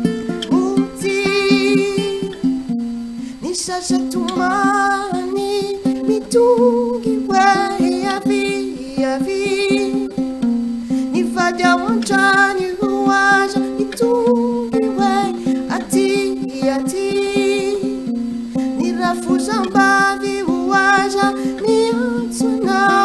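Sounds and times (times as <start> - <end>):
woman singing with vibrato: 0.0 - 2.6, 3.3 - 10.3, 11.0 - 23.0
ukulele: 0.0 - 23.0.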